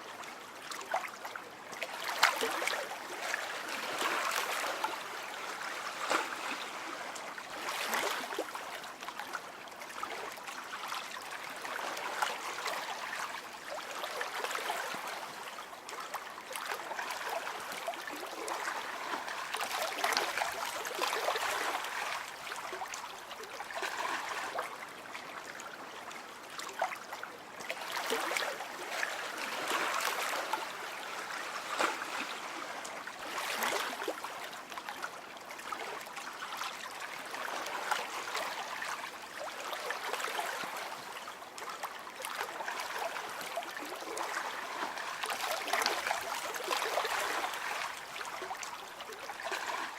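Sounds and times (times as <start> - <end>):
stream water babbling: 0.0 - 49.9.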